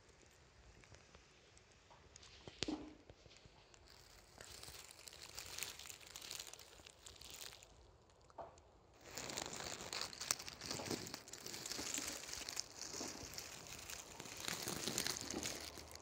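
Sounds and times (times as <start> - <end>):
close rustling and crackling: 0.1 - 16.0.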